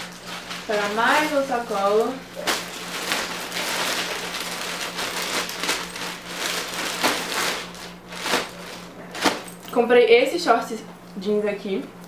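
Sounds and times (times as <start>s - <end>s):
plastic packaging rustling and crinkling: 0.0s - 9.7s.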